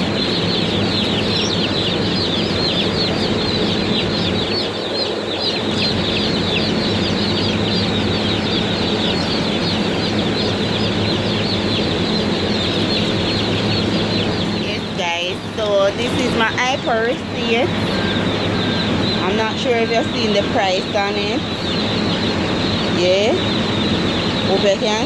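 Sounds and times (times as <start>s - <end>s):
chicks peeping: 0.0s - 25.0s
steady low hum: 0.0s - 25.0s.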